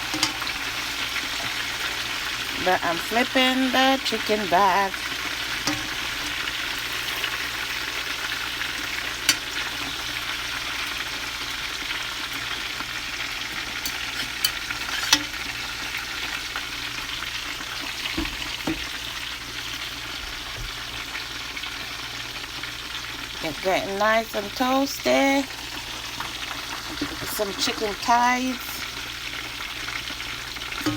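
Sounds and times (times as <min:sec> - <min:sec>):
chicken sizzling in hot oil: 0:00.0 - 0:30.9.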